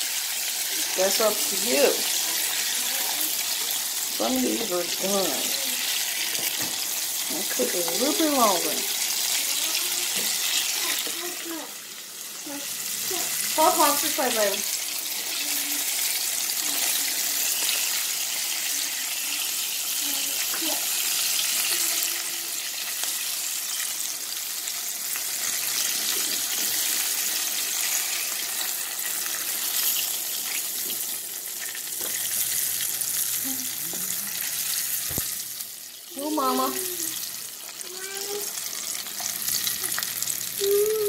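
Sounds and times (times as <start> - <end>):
deep-frying crackling sizzle: 0.0 - 41.0.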